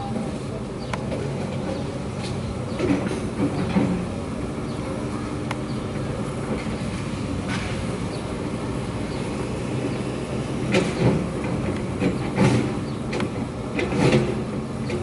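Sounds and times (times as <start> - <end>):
diesel engine of heavy machinery: 0.0 - 15.0.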